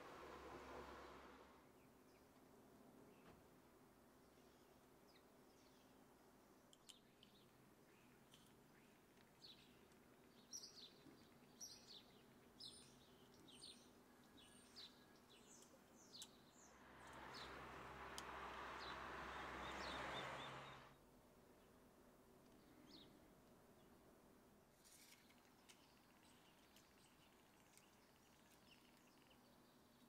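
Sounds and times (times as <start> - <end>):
faint birds chirping: 0.0 - 24.1, 24.9 - 30.0.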